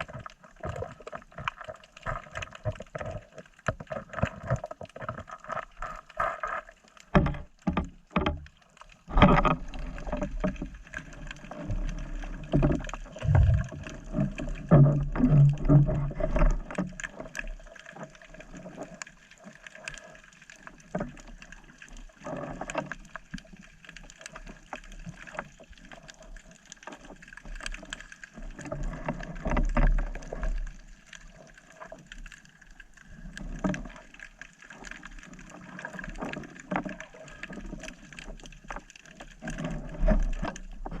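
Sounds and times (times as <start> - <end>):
small clicks and knocks: 0.0 - 41.0
water sloshing and gurgling: 0.0 - 41.0.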